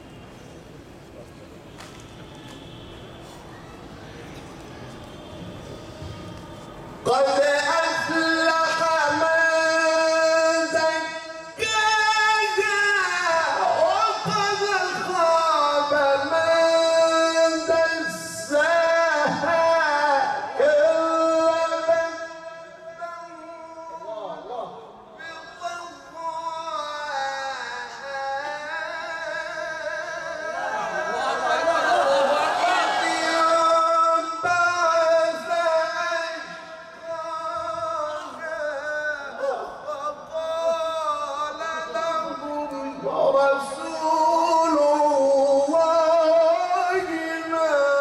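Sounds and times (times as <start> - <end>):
man reciting in sung style: 6.0 - 48.0
man chanting into a microphone: 7.0 - 48.0.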